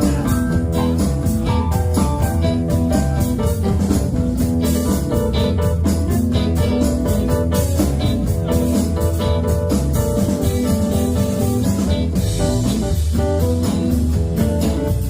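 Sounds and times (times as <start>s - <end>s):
bass guitar: 0.0s - 15.0s
guitar: 0.0s - 15.0s
organ chords: 0.0s - 15.0s
steady drum beat: 0.0s - 15.0s.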